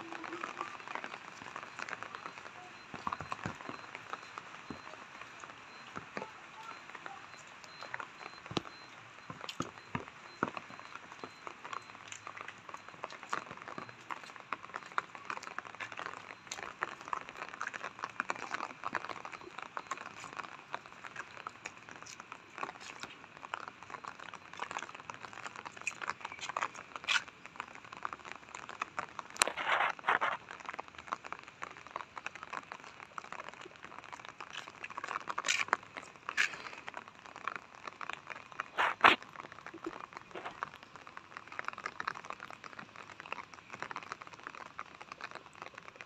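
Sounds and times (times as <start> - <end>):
raindrops tapping: 0.0 - 46.0.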